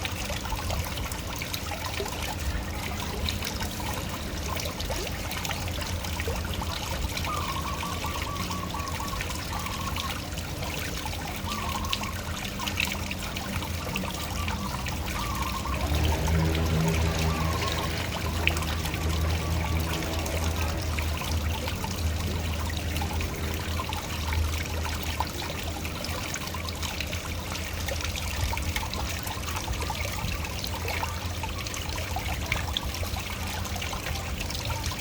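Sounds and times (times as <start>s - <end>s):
water splashing and trickling: 0.0s - 35.0s.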